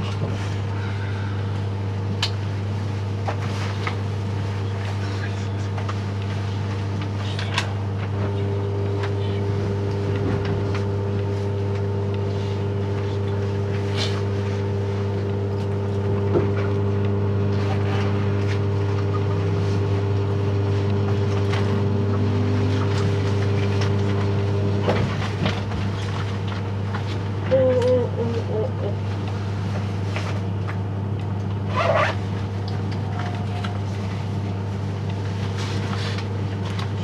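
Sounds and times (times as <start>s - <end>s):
electric train hum: 0.0s - 37.0s.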